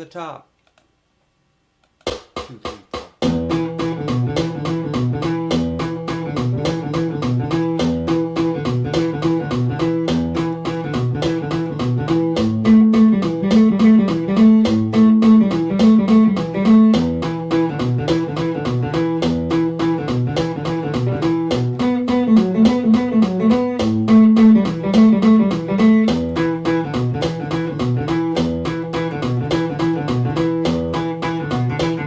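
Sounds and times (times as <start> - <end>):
guitar playing fast riff: 3.2 - 32.0.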